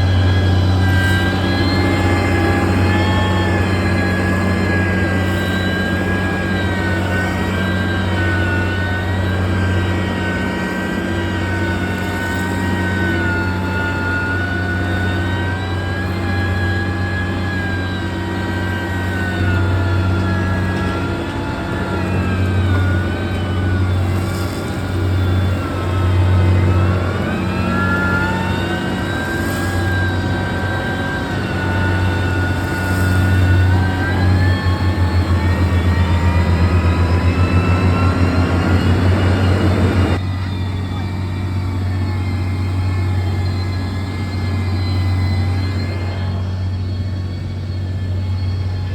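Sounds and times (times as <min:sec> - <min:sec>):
heavy diesel engine droning: 0:00.0 - 0:48.9.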